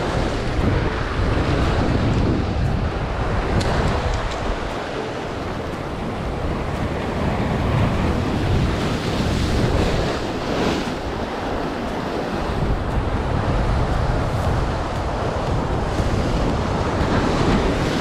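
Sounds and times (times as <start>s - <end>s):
sea surf washing ashore: 0.0s - 18.0s
wind buffeting microphone: 0.0s - 18.0s.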